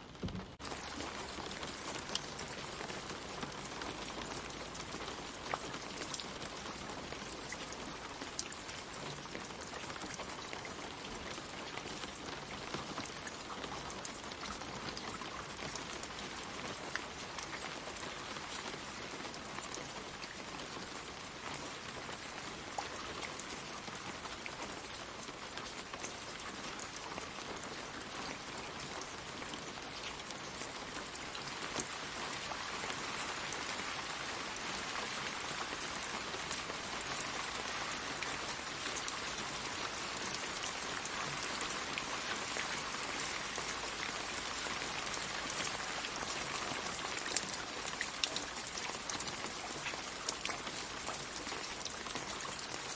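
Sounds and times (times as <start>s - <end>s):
rain pattering on leaves: 0.0s - 52.9s.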